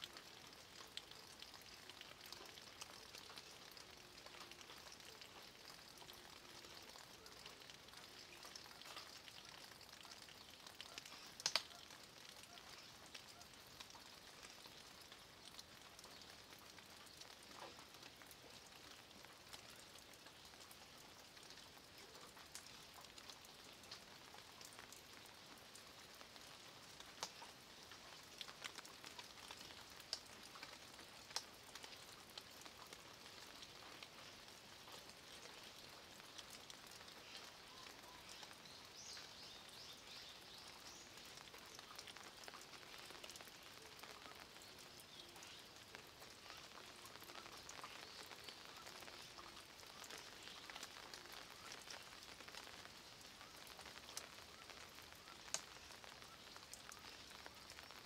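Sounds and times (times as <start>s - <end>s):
drip ticks: 0.0s - 58.0s
light rain pattering: 0.0s - 58.0s.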